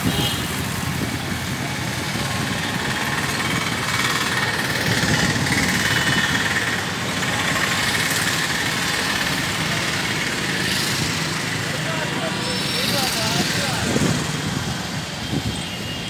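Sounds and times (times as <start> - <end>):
road traffic engines: 0.0 - 16.0
knocking clattering engine: 0.8 - 15.1.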